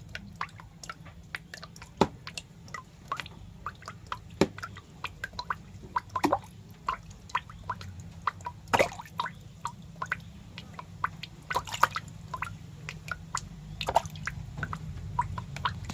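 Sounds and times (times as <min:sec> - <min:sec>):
low steady hum: 0:00.0 - 0:15.9
wet clicks and small drips: 0:00.0 - 0:15.9.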